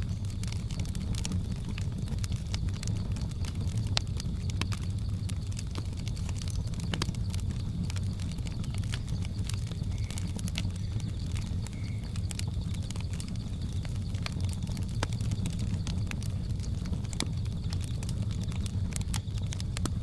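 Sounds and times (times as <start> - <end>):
insect drone: 0.0 - 20.0
wood fire crackling and popping: 0.0 - 20.0.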